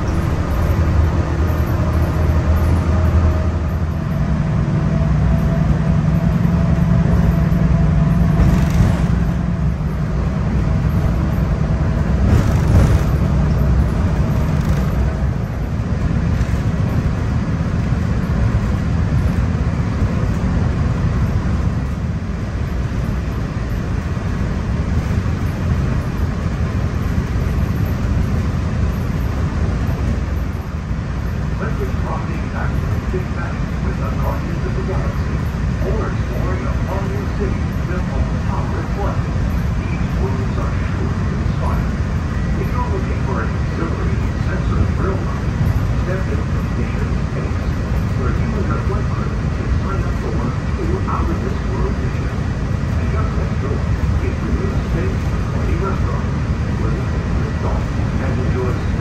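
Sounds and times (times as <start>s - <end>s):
monorail drive hum and whine: 0.0s - 59.0s
train rumble on beam: 0.0s - 59.0s.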